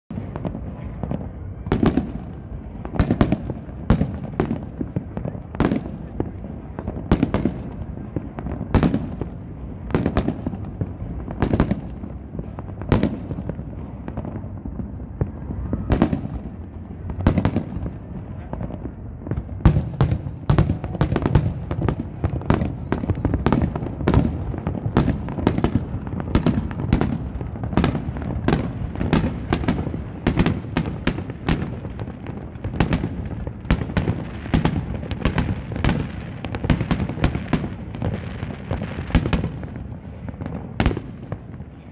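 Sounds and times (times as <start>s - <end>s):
fireworks bursting: 0.1s - 41.9s.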